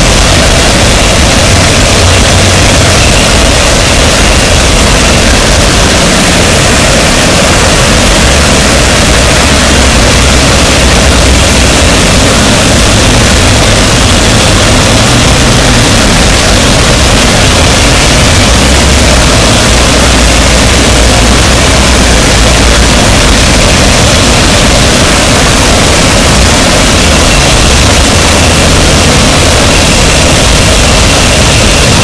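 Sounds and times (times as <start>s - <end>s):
harsh distorted noise wall: 0.0s - 32.0s.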